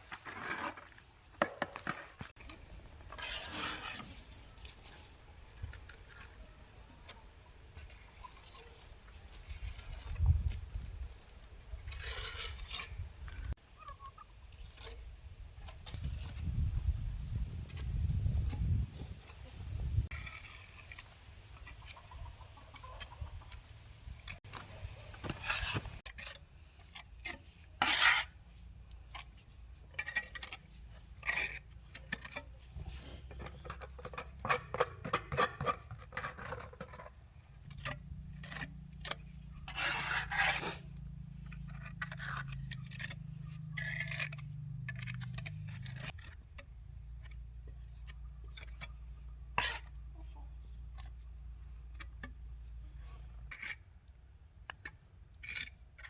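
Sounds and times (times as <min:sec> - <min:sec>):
hard objects scraping and rubbing: 0:00.0 - 0:16.8, 0:24.3 - 0:53.9.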